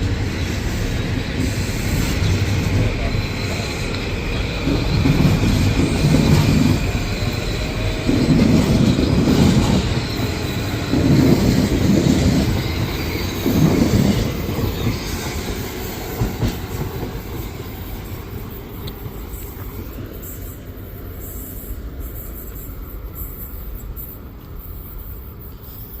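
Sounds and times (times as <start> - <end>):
high wheel squeal: 0.0 - 26.0
train wheels rumbling over rail joints: 0.0 - 26.0.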